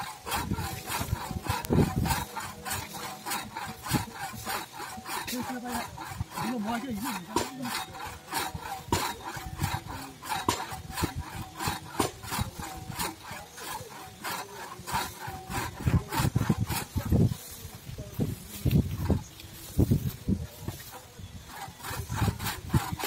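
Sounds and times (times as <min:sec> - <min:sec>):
crosscut saw rasping through log: 0:00.0 - 0:23.0.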